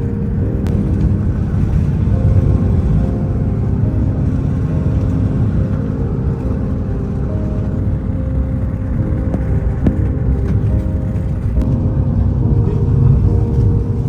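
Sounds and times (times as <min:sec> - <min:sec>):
faint music: 0:00.0 - 0:14.0
vehicle rumble in motion: 0:00.0 - 0:14.0.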